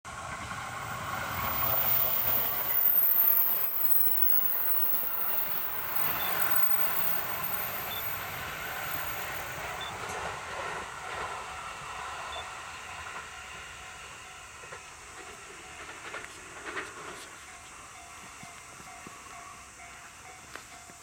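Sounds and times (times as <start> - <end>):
train wheels running on rails: 0.1 - 21.0.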